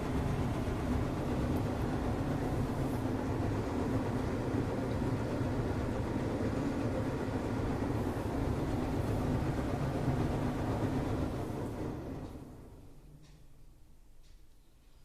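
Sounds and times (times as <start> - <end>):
washing machine humming: 0.0 - 14.4.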